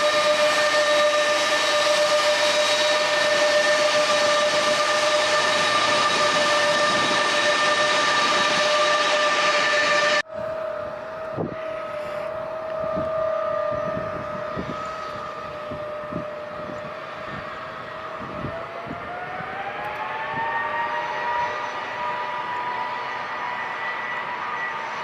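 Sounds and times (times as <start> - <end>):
jet engines whining: 0.0 - 25.0.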